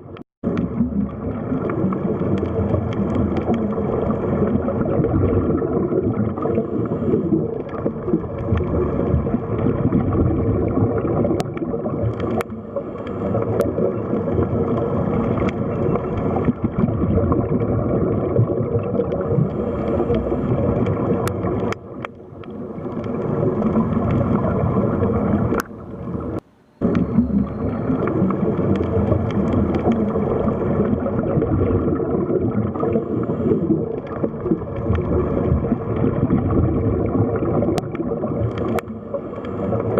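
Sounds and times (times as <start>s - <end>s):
water gurgling and sloshing: 0.0s - 39.9s.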